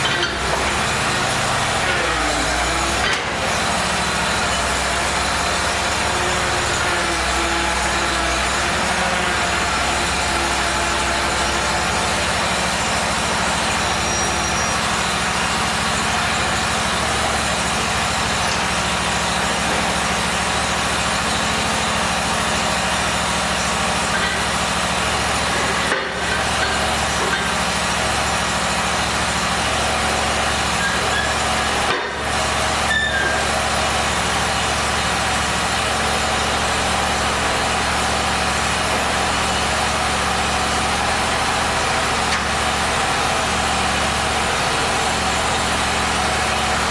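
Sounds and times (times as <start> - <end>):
loud machine drone: 0.0 - 46.9.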